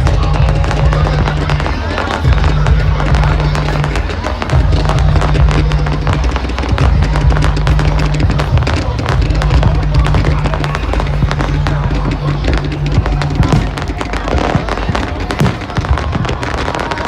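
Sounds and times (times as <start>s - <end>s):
fireworks bursting and crackling: 0.0s - 17.0s
loud music with bass: 0.0s - 17.0s.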